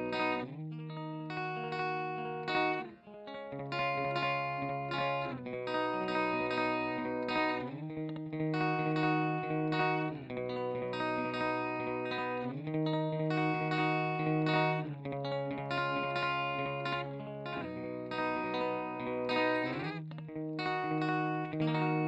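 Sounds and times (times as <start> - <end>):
electric guitar chords with flanger: 0.0 - 22.0.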